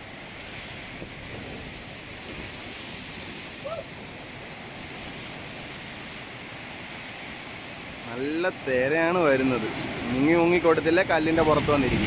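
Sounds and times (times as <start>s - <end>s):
waves breaking on rocks: 0.0s - 12.0s.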